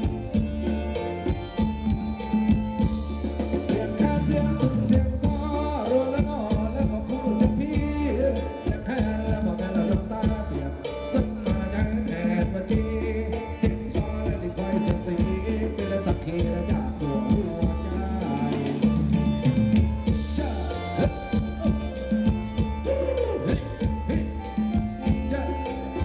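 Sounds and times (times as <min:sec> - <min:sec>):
live band playing dance music: 0:00.0 - 0:26.0.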